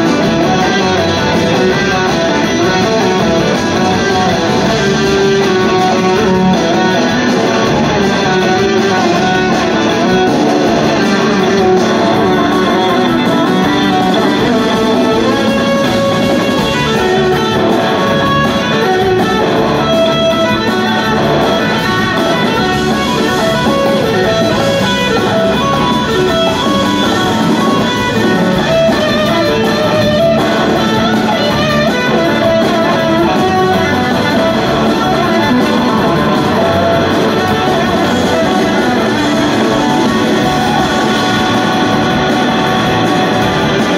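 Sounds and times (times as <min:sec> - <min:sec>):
drums: 0:00.0 - 0:43.9
electric guitar melodic lines: 0:00.0 - 0:43.9
organ: 0:00.0 - 0:43.9.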